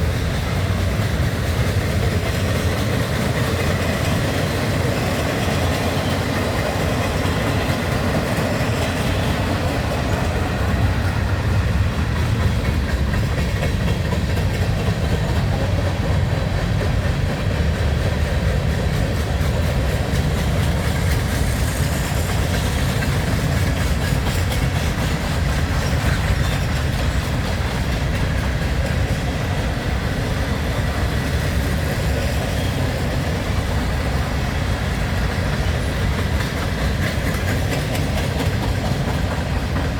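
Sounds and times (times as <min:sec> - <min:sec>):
freight train rumbling: 0:00.0 - 0:39.9
wheel clatter on rails: 0:00.0 - 0:39.9.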